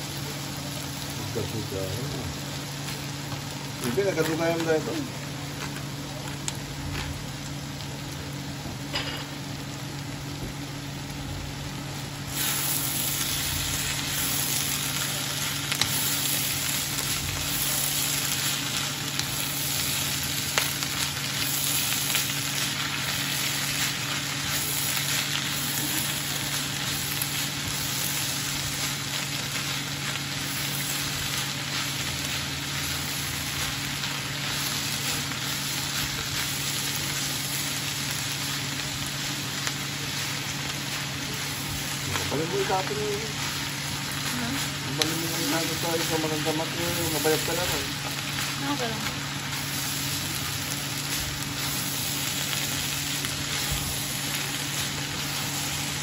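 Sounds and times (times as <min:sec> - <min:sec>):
food sizzling in a hot pan: 0:00.0 - 0:56.0.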